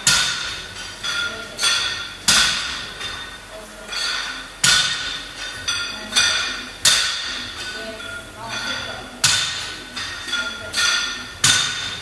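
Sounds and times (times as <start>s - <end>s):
metal weights clanking on floor: 0.0s - 12.0s.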